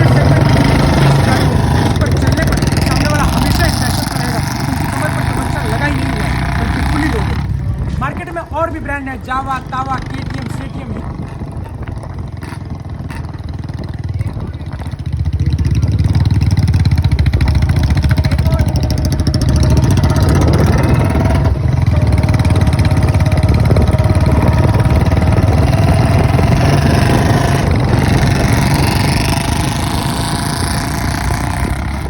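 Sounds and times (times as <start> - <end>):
single-cylinder motorcycle engine running: 0.0 - 32.0.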